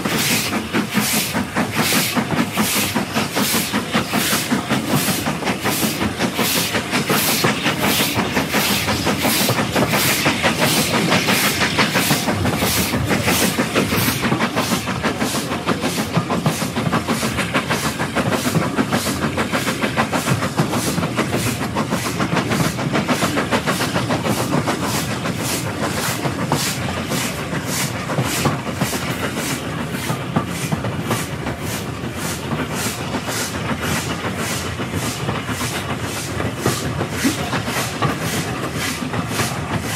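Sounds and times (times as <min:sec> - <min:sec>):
steam hissing: 0:00.0 - 0:39.9
steam locomotive chuffing: 0:00.0 - 0:39.9
wheels clattering on rails: 0:00.0 - 0:39.9.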